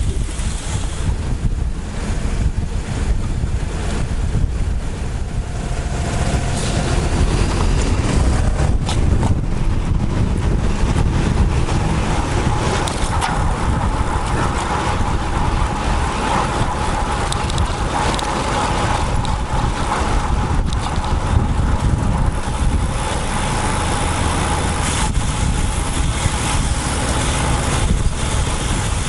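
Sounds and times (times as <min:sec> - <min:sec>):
road and traffic noise: 0:00.0 - 0:29.0
vehicle passing hum: 0:00.0 - 0:29.0
wind buffeting microphone: 0:00.0 - 0:29.0.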